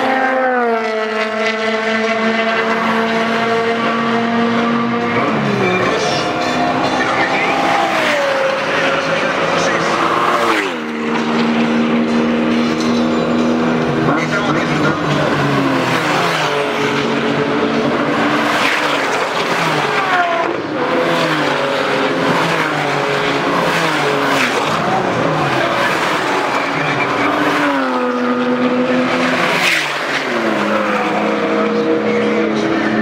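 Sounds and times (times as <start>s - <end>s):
sports car engines accelerating: 0.0s - 33.0s.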